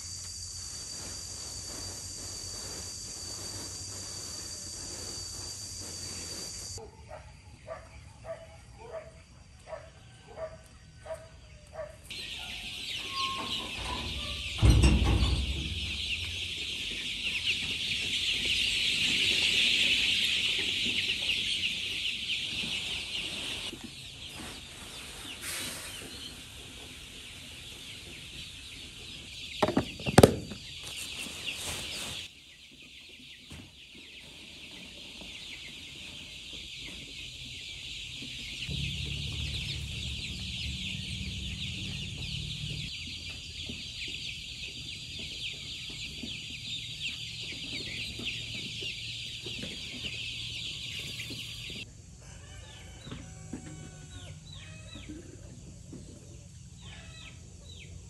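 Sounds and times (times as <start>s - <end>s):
chicks peeping: 0.9s - 58.0s.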